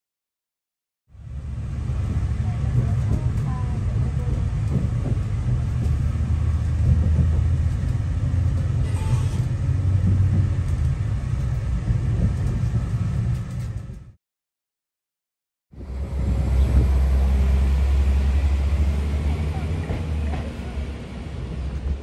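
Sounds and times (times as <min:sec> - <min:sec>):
train rumbling on track: 0:01.1 - 0:14.2, 0:15.7 - 0:22.0.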